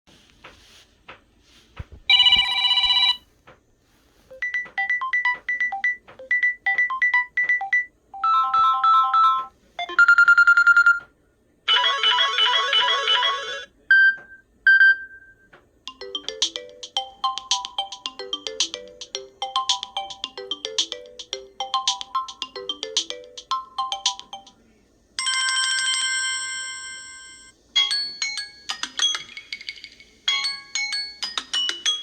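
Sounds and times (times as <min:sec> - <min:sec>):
electronic phone ringtones: 0:02.1 - 0:03.2, 0:04.3 - 0:11.1, 0:11.7 - 0:24.5, 0:25.2 - 0:32.0.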